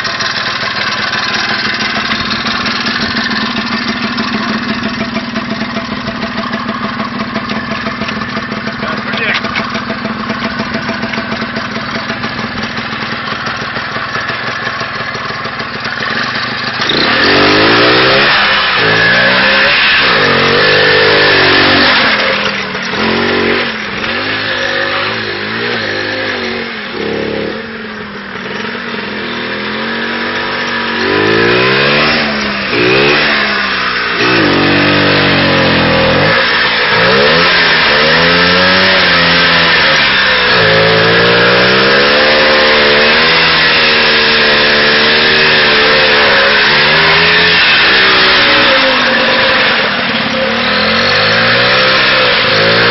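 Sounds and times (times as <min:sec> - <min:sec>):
two-stroke engine revving: 0:00.0 - 0:52.9.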